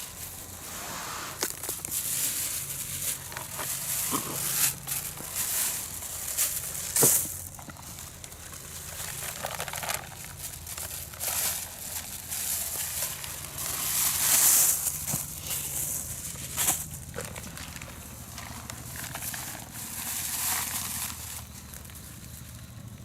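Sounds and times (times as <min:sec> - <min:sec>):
rustling and crunching: 0:00.0 - 0:23.0.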